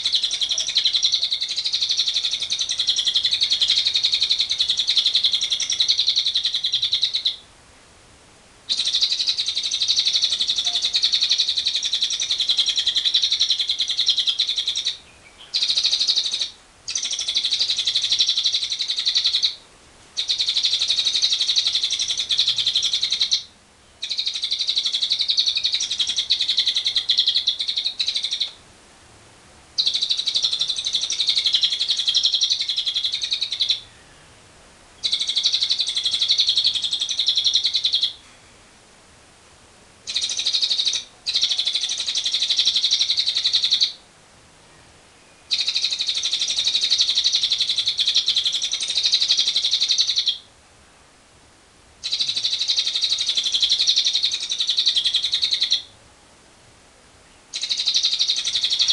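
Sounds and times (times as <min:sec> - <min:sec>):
lovebird chattering trill: 0:00.0 - 0:07.5, 0:08.7 - 0:19.6, 0:20.2 - 0:28.6, 0:29.8 - 0:34.0, 0:35.0 - 0:38.2, 0:40.1 - 0:44.0, 0:45.5 - 0:50.5, 0:52.0 - 0:55.9, 0:57.5 - 0:58.9.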